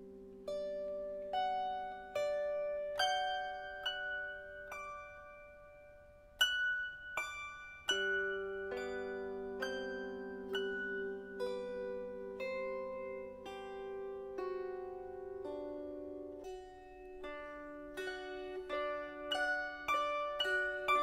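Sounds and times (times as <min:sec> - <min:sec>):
plucked notes ringing: 0:00.0 - 0:21.0.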